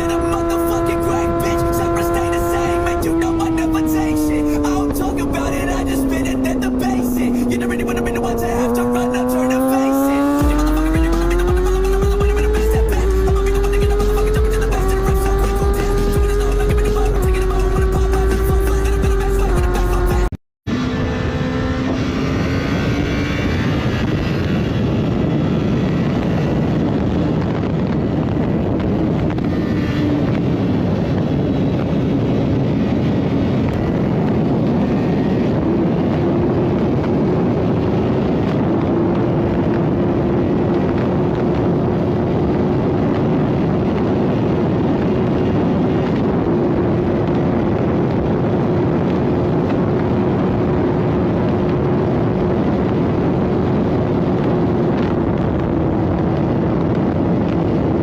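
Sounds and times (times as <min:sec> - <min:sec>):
motorcycle engine running: 0:00.0 - 0:58.0
wind on microphone: 0:00.0 - 0:58.0.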